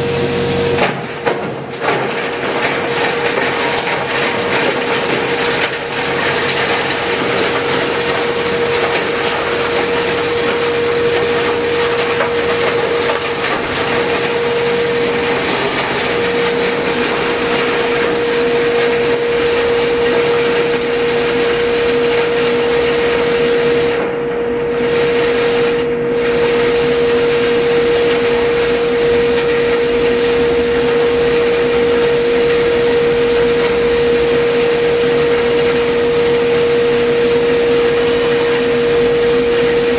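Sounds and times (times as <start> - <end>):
plastic granulator whirring: 0.0 - 39.9.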